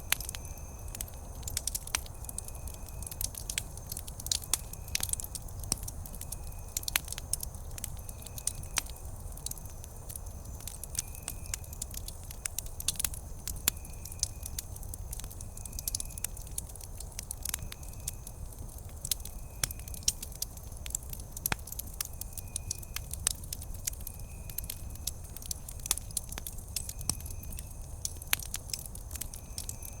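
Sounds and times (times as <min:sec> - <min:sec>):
wood campfire crackling: 0:00.0 - 0:30.0.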